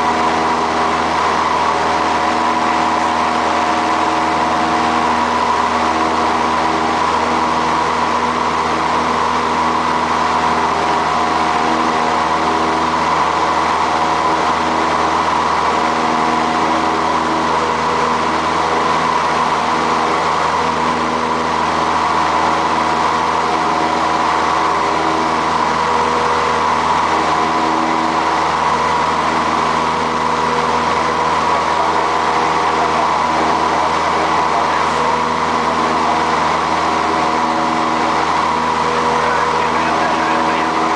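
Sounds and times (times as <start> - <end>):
aircraft engine droning: 0.0 - 40.9.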